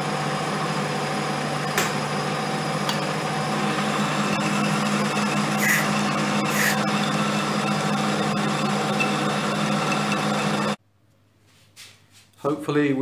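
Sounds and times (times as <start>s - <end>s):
metal lathe humming: 0.0s - 10.8s.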